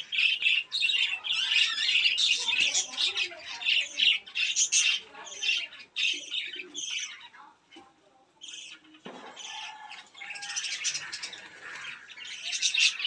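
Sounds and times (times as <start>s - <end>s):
birds squawking and chirping: 0.0s - 13.0s.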